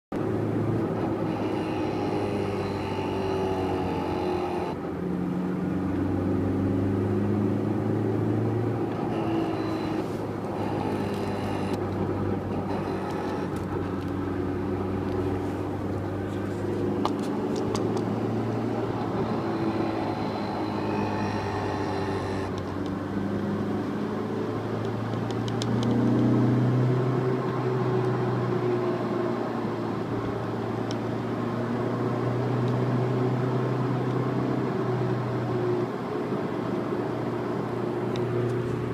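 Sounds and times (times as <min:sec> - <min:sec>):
car engine cruising: 0:00.1 - 0:38.9.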